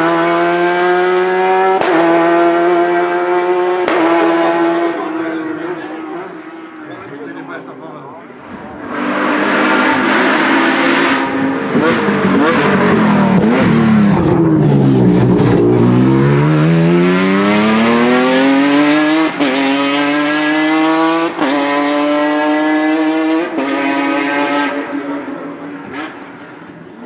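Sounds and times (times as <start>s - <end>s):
race car engine: 0.0s - 27.0s.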